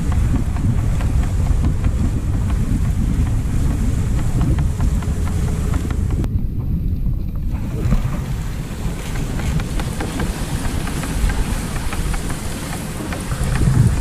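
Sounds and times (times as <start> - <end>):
sled running over snow: 0.0 - 14.0
wind buffeting microphone: 0.0 - 14.0.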